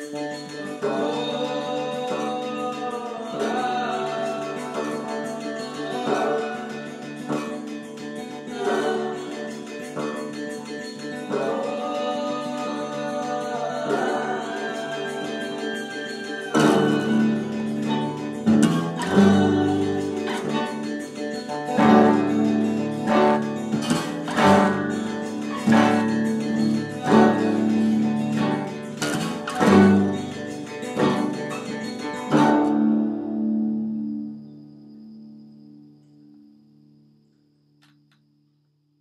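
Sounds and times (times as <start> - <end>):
acoustic guitar strumming chords: 0.0 - 36.5.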